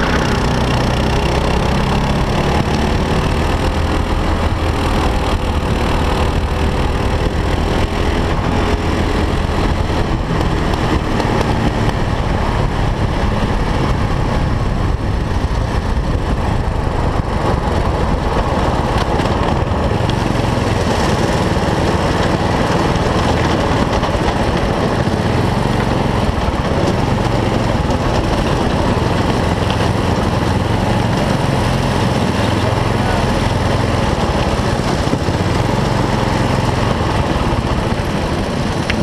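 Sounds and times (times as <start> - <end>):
kart engine running steadily: 0.0 - 39.0.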